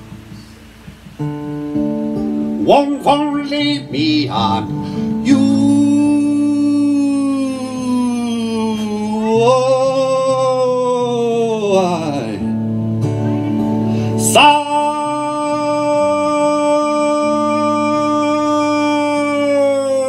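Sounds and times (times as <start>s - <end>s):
acoustic guitar: 0.0s - 20.0s.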